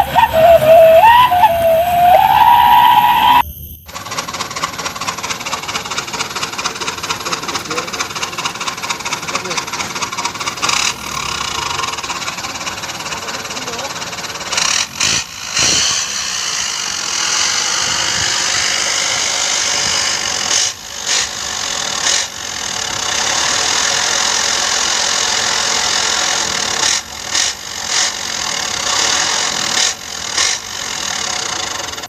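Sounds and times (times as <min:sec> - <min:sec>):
truck engine running hard: 0:00.0 - 0:32.0.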